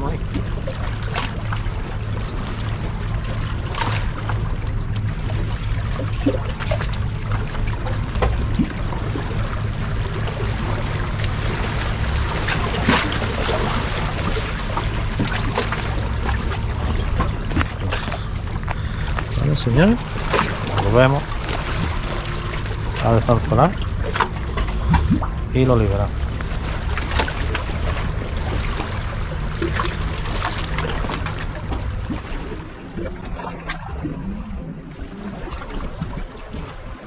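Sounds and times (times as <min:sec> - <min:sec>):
low rumble: 0:00.0 - 0:37.0
sea water lapping: 0:00.0 - 0:37.0.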